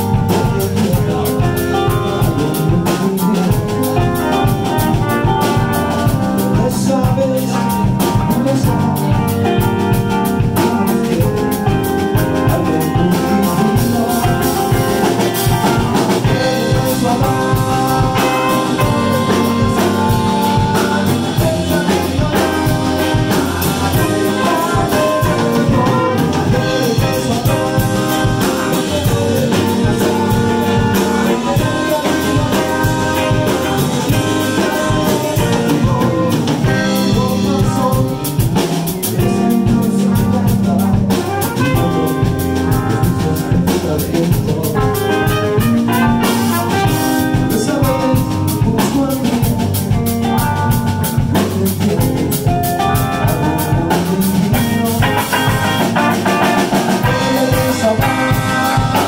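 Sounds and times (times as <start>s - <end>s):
trumpet: 0.0s - 6.6s, 8.4s - 37.9s, 39.4s - 44.0s, 44.7s - 47.9s, 54.6s - 59.0s
drum kit: 0.0s - 59.0s
electric bass: 0.0s - 59.0s
electric guitar: 0.0s - 59.0s.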